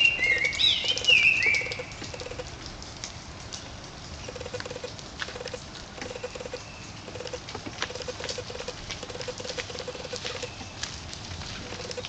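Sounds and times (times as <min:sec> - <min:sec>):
water dripping on wet leaves: 0:00.0 - 0:12.0.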